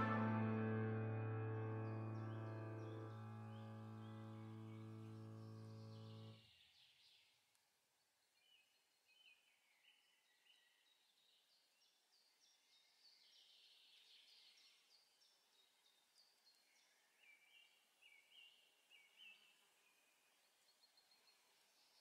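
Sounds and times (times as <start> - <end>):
faint birdsong chirping: 0.0 - 22.0.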